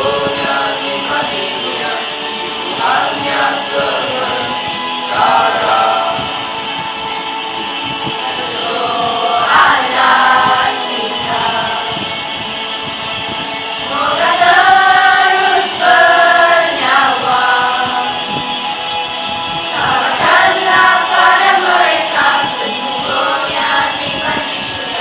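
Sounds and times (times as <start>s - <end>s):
children's choir singing: 0.0s - 25.0s.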